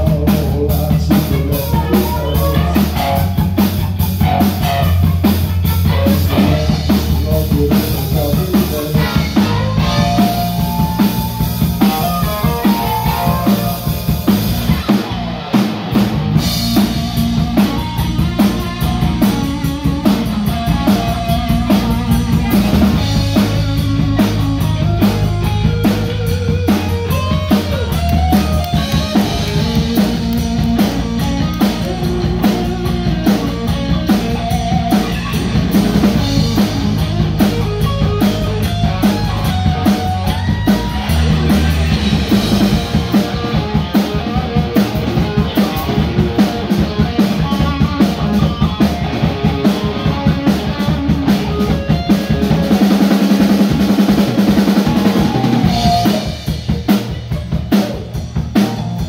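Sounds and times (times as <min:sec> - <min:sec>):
drum kit beating: 0:00.0 - 0:59.0
electric guitar lead: 0:00.0 - 0:59.0.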